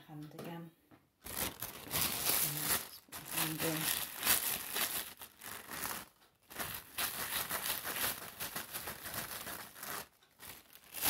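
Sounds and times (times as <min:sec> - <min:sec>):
plastic bag crinkling and rustling: 0:01.2 - 0:11.0.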